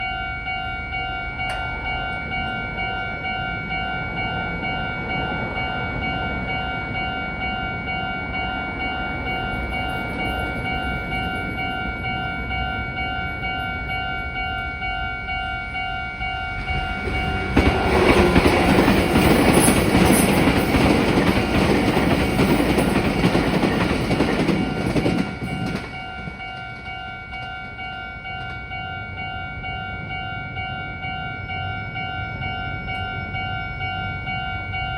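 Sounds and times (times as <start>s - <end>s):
electric train rushing past: 0.0s - 34.9s
level crossing alarm bell: 0.0s - 34.9s.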